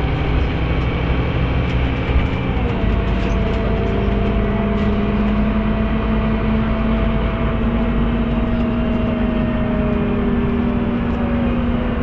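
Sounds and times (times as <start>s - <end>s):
bus engine hum with whine: 0.0s - 12.0s.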